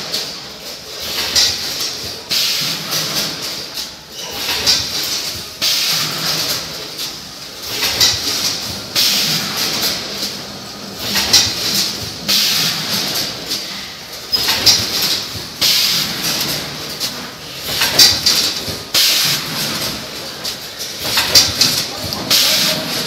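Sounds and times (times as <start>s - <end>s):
machine running noise: 0.0s - 23.0s.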